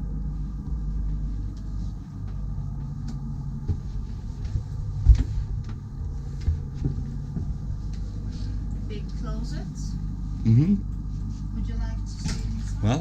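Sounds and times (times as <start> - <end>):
low rumble: 0.0 - 11.1
faint hum: 0.0 - 13.0.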